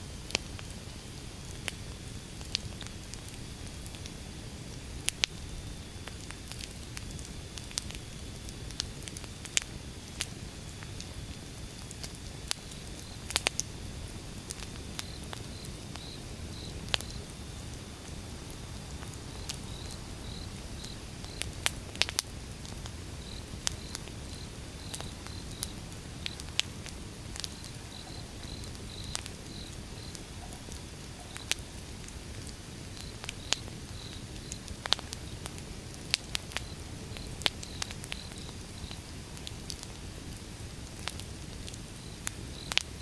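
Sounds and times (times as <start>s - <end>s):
fire burning: 0.0s - 43.0s
wood crackling and popping: 0.2s - 43.0s.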